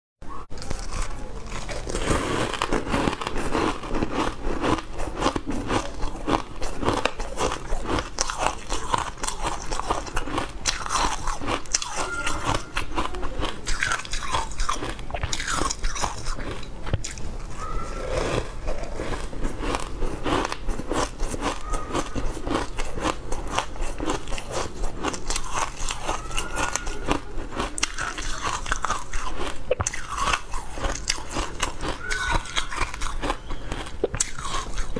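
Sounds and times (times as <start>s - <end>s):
crunching and chewing: 0.5s - 34.9s.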